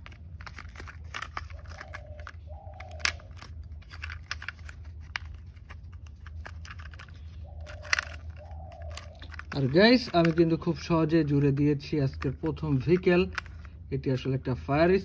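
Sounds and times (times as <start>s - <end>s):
plastic parts snapping together: 0.0s - 11.6s, 12.2s - 13.7s
plastic squeaking on plastic: 0.0s - 13.8s.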